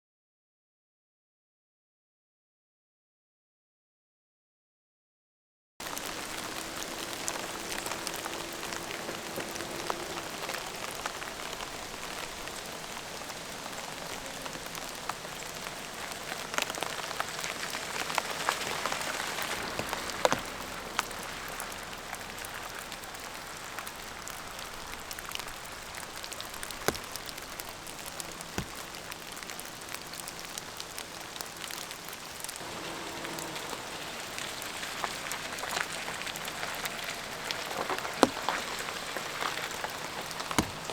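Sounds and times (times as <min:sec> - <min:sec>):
raindrops tapping: 0:05.8 - 0:40.9
steady rain falling: 0:05.8 - 0:40.9.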